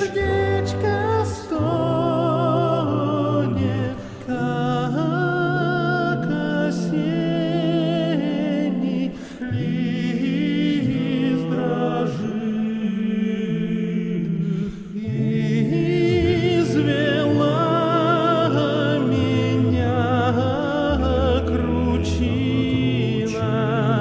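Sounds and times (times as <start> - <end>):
person singing folk song: 0.0 - 24.0.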